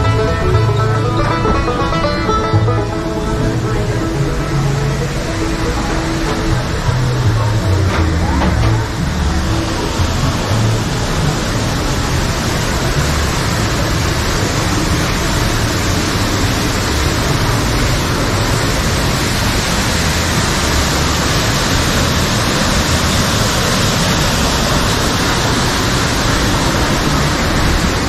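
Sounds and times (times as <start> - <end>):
waterfall pouring into a pool: 3.8 - 28.0.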